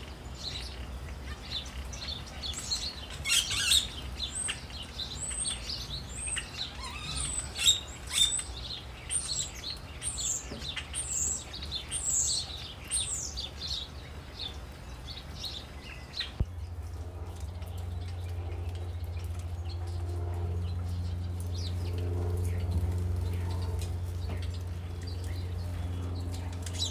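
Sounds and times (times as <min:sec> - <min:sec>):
small birds chirping: 0:00.0 - 0:26.9
steady low hum: 0:00.0 - 0:26.9.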